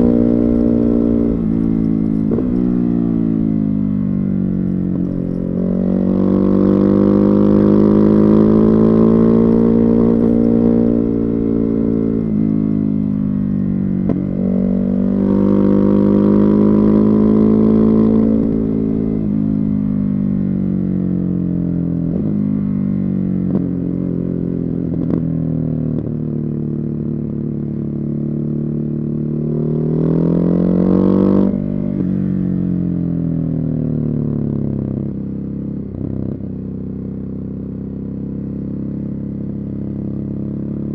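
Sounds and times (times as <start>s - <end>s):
motorcycle engine revving: 0.0s - 26.8s, 28.6s - 36.8s.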